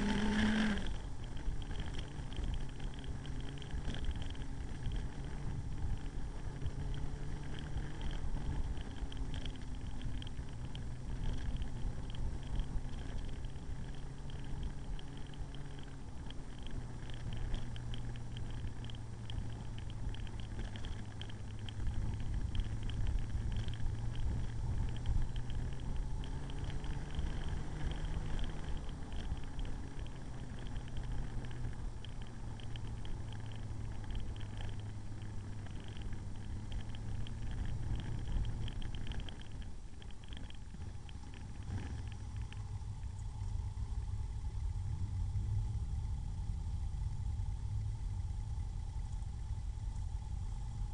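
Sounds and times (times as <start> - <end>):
motorcycle engine cruising: 0.0 - 50.9
road and wind noise: 0.0 - 50.9.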